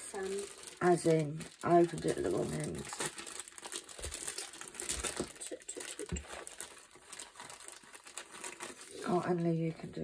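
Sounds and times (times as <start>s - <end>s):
plastic wrapping crinkling: 0.0s - 9.8s.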